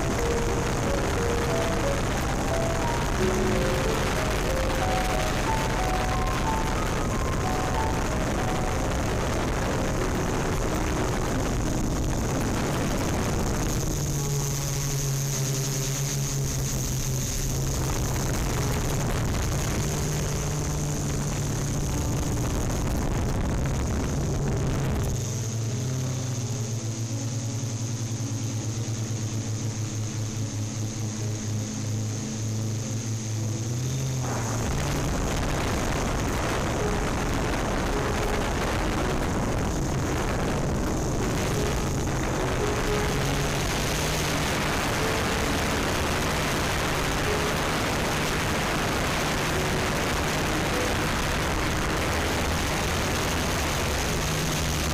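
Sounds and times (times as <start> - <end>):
rushing air: 0.0 - 15.0, 15.6 - 54.9
drone motors humming and whining: 0.0 - 54.9.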